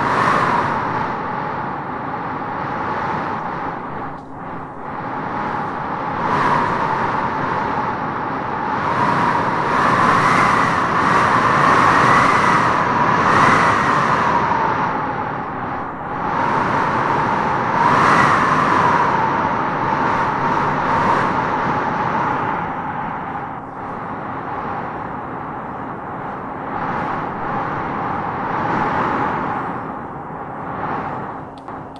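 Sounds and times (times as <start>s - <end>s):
strong wind howling in gusts: 0.0s - 31.9s.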